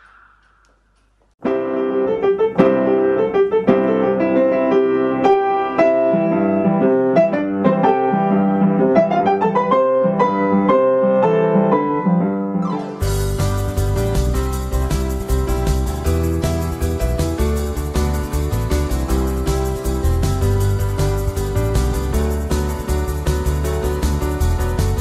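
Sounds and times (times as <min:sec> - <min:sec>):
piano melody: 0:01.4 - 0:25.0.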